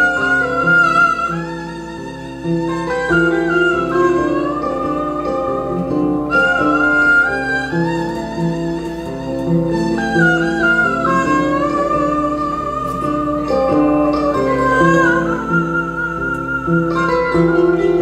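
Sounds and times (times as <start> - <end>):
bowed fiddle melody: 0.0 - 18.0
plucked kora notes: 0.0 - 18.0.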